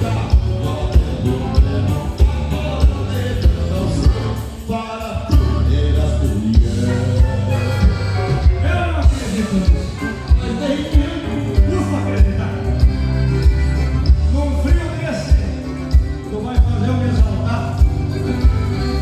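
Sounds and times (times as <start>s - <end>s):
heavy bass line: 0.0s - 19.0s
live band music over a pa: 0.0s - 19.0s.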